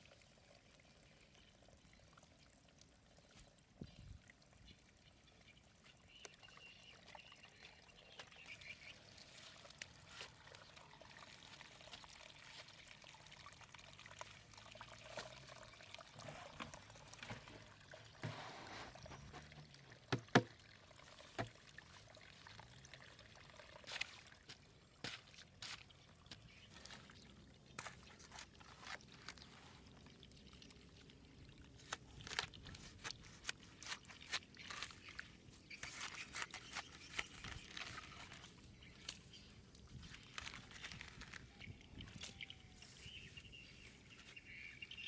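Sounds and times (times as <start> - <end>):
water pouring and trickling: 0.0 - 45.0.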